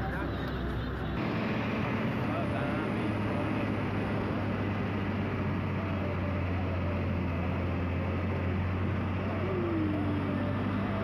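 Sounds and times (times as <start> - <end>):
bus engine droning: 0.0 - 11.0
road noise: 0.0 - 11.0.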